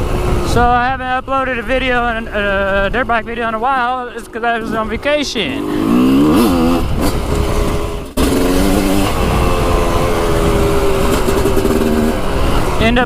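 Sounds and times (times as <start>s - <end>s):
dirt bike engine revving: 0.0s - 0.8s, 1.7s - 13.0s.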